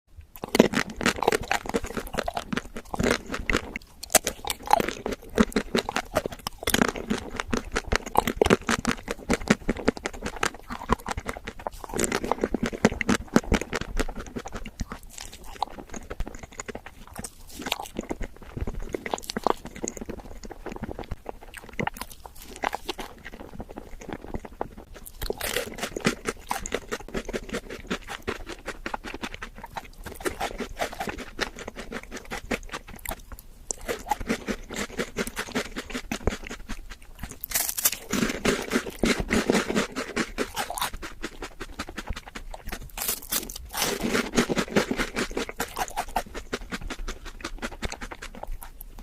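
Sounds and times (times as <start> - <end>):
crunching and chewing food: 0.1 - 49.0.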